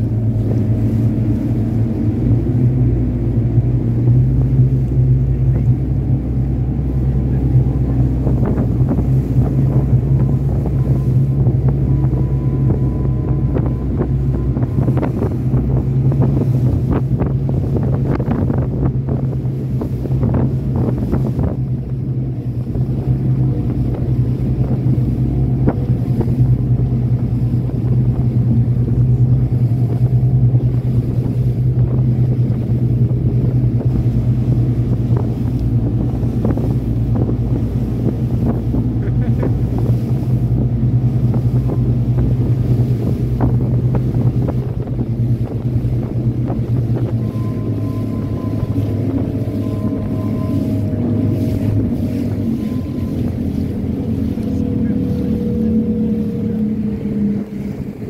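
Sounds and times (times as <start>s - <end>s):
hull slapping on water: 0.0s - 58.0s
speedboat engine drone: 0.0s - 58.0s
wind buffeting microphone: 0.0s - 58.0s.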